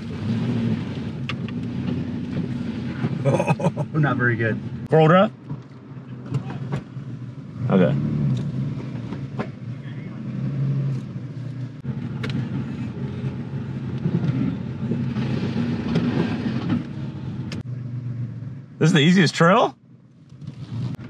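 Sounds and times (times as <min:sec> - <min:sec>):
truck engine running at low speed: 0:00.0 - 0:18.9.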